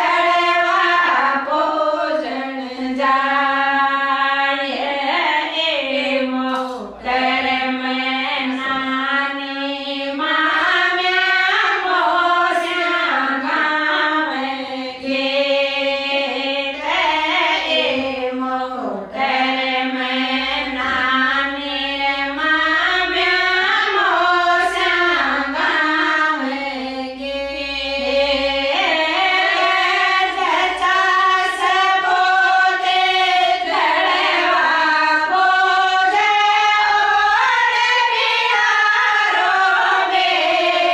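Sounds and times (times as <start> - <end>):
women singing folk song: 0.0 - 40.9.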